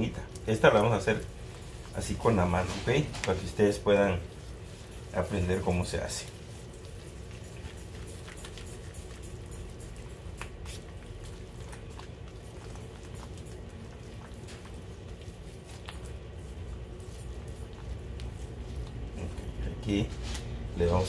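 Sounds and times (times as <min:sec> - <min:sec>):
frosting squishing and patting: 0:00.0 - 0:21.0
steady low hum: 0:00.0 - 0:21.0.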